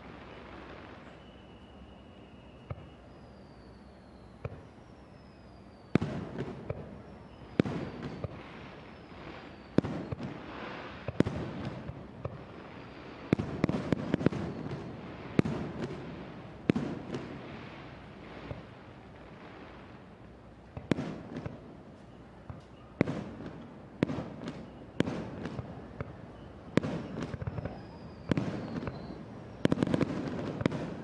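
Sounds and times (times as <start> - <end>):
faint falling whistles: 0.0 - 19.5, 20.8 - 23.1, 24.0 - 31.0
crackling rumbling fireworks tail: 0.0 - 31.0
fireworks bursting with bangs: 0.0 - 31.0.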